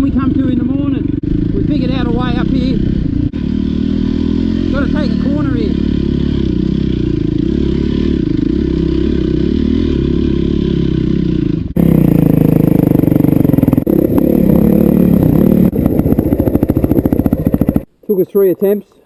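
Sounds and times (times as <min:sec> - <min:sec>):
dirt bike engine running: 0:00.0 - 0:17.9.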